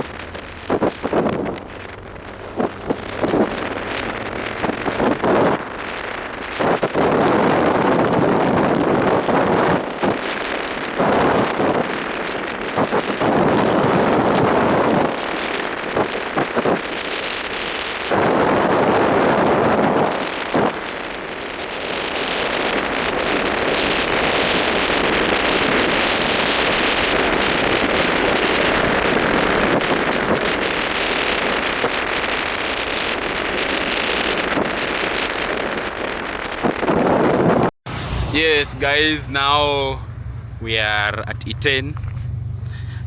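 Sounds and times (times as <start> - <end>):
wind buffeting microphone: 0.0 - 40.5
steady road noise: 0.0 - 43.0.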